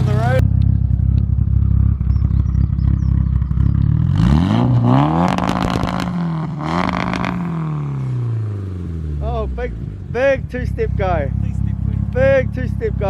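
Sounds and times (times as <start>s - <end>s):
car engine idling and revving: 0.0s - 13.0s
exhaust crackling and popping: 0.0s - 13.0s.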